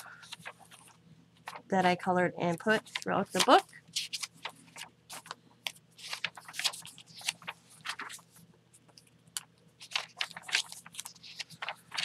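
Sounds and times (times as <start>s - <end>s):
paper pages rustling: 0.1s - 1.7s, 2.6s - 12.0s.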